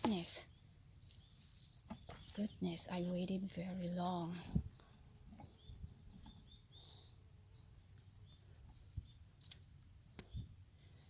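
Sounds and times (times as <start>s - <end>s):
birds chirping: 0.0s - 11.0s
insects trilling: 0.0s - 11.0s.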